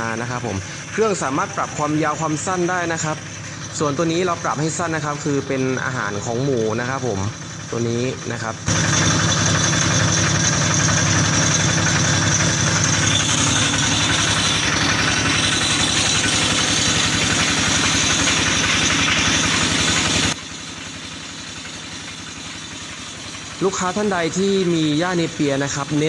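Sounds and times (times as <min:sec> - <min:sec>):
engine running under load: 0:00.0 - 0:26.0
pellet mill pressing pellets: 0:00.1 - 0:26.0.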